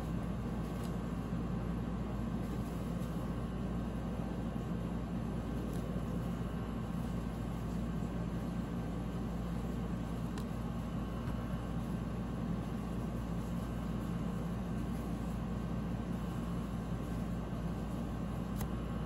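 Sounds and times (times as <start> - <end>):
fan and air conditioner hum: 0.0 - 19.0.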